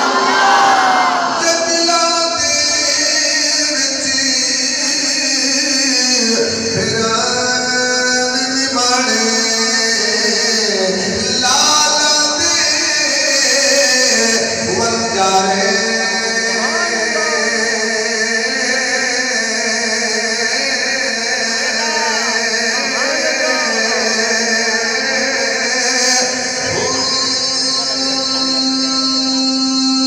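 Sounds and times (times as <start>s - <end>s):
man chanting: 1.2s - 30.0s.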